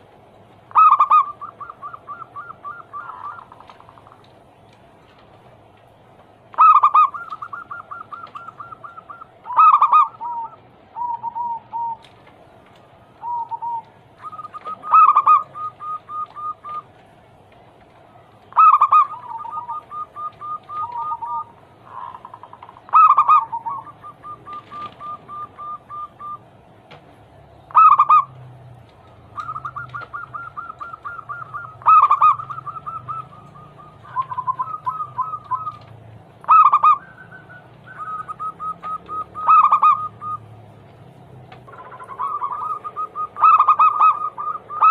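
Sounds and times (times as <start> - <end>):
doves cooing: 0.0 - 44.9.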